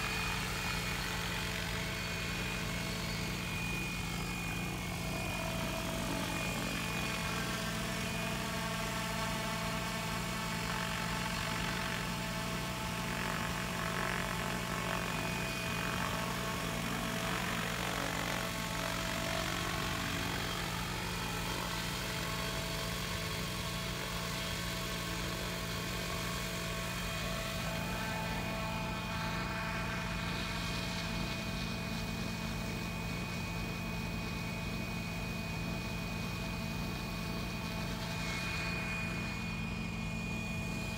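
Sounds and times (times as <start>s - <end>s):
model helicopter whining: 0.0s - 40.9s.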